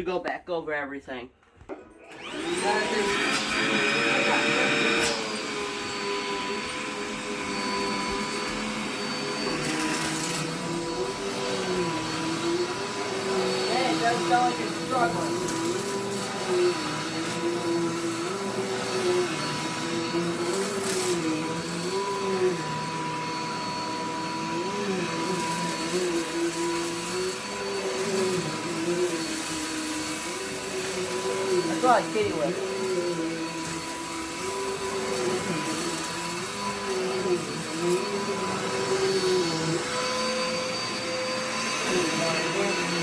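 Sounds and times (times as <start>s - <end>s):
vacuum cleaner running: 2.0s - 43.0s.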